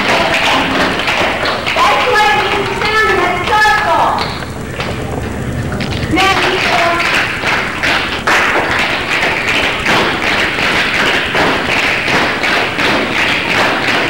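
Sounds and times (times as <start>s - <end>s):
shoes tapping and stamping on floor: 0.0s - 14.0s.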